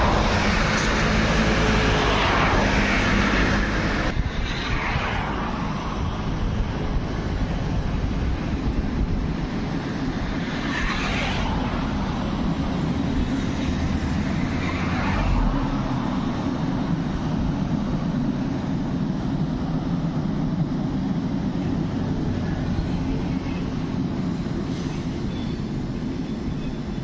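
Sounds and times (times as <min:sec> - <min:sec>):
vehicles swooshing past: 0:00.0 - 0:26.5
low road traffic rumble: 0:00.0 - 0:27.0.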